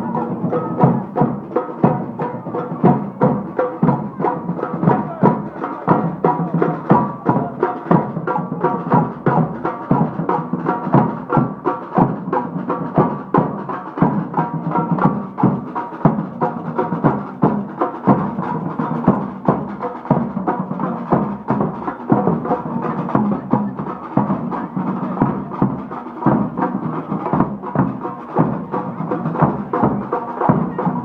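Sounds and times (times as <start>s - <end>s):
drums beating: 0.0s - 31.0s.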